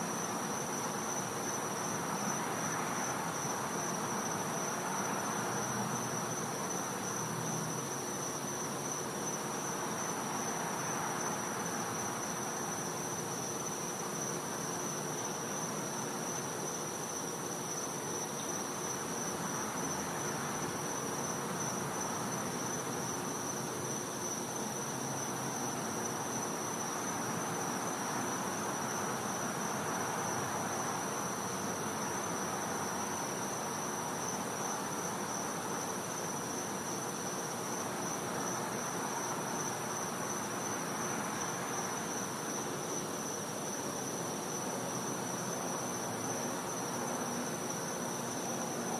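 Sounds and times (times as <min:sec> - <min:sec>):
insect trill: 0:00.0 - 0:48.9.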